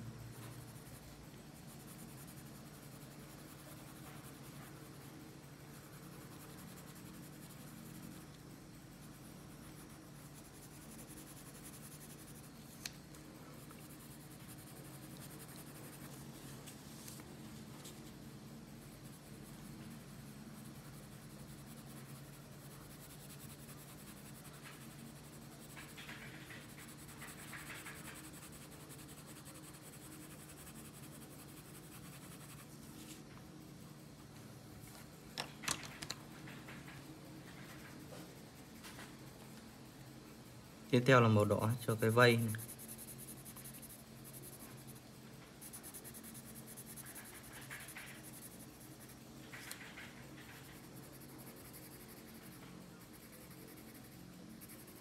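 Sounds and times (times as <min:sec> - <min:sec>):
pencil scratching on paper: 0:00.0 - 0:33.2, 0:36.4 - 0:39.3, 0:40.9 - 0:55.0
steady low hum: 0:00.0 - 0:55.0.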